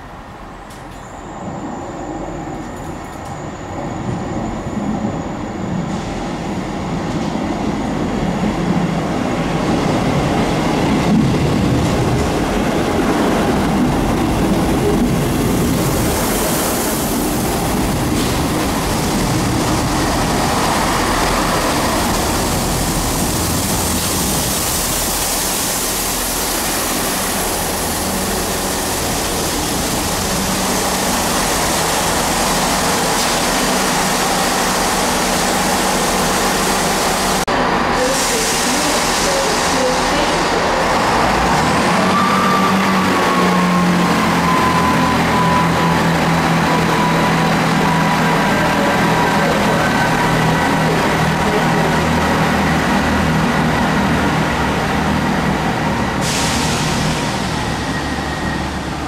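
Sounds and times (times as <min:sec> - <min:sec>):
train rumbling past: 0:00.0 - 0:59.0.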